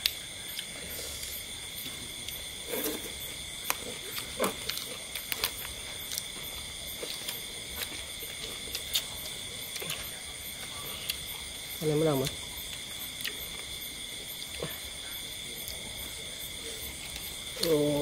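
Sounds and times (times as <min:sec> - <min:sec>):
chewing and lip-smacking: 0:00.0 - 0:11.5, 0:12.3 - 0:17.8
night insects chorus: 0:00.0 - 0:18.0.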